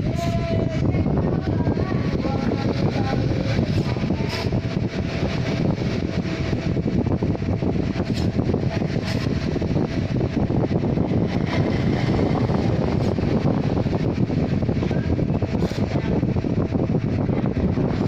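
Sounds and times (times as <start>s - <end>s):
low mechanical rumble: 0.0s - 18.0s.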